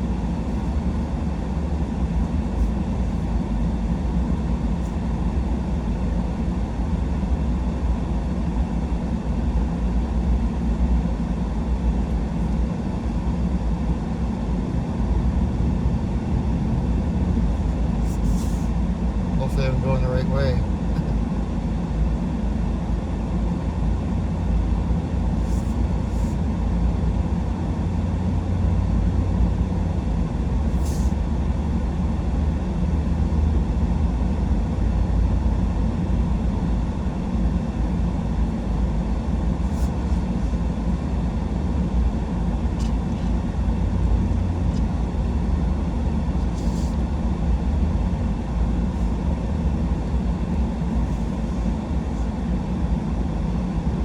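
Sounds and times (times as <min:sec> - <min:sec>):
truck engine and tyres rumbling: 0:00.0 - 0:52.2.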